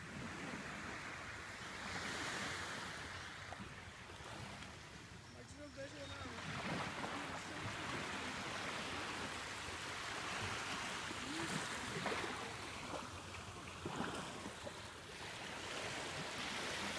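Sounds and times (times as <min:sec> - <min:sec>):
gentle surf on beach: 0:00.0 - 0:16.9.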